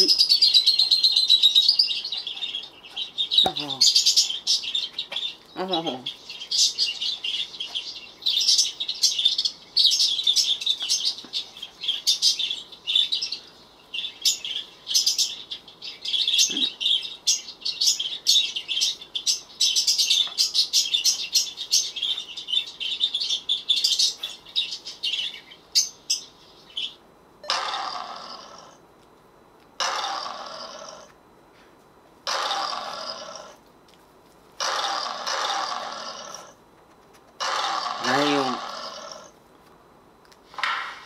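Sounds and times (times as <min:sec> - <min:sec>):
recorded birdsong chirps: 0:00.0 - 0:28.9, 0:34.6 - 0:36.6, 0:37.4 - 0:39.4.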